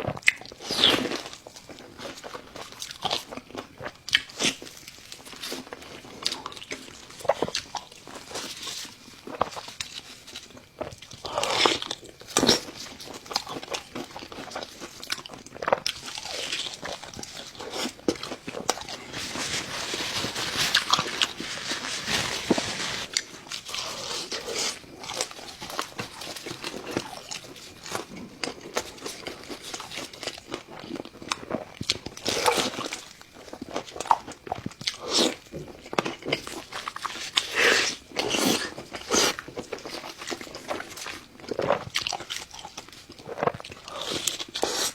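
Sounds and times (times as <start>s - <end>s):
person crunching and chewing food: 0.0s - 44.9s.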